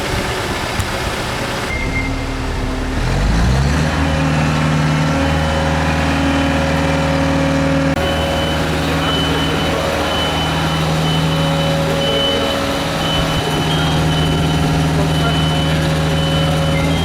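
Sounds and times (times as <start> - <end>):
heavy vehicle engine revving: 0.0 - 17.0.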